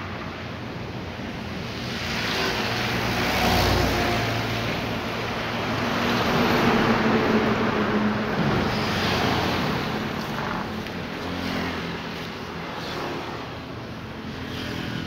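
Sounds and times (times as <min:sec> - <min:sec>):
rushing traffic noise: 0:00.0 - 0:15.0
vehicle engine hum: 0:02.9 - 0:15.0.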